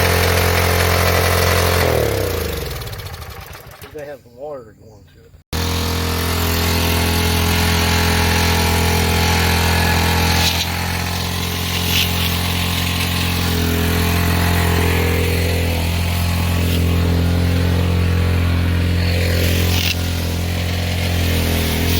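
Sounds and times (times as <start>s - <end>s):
small gas engine running: 0.0s - 4.0s, 5.5s - 21.9s.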